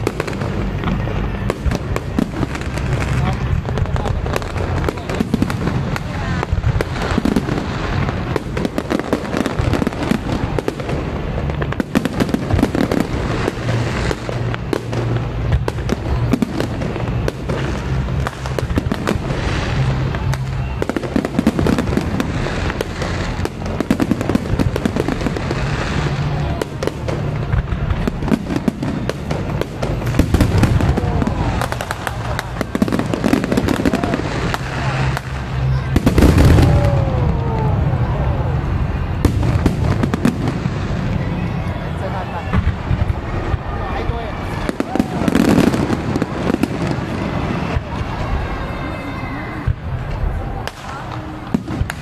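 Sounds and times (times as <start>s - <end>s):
fireworks crackling and banging: 0.0s - 52.0s.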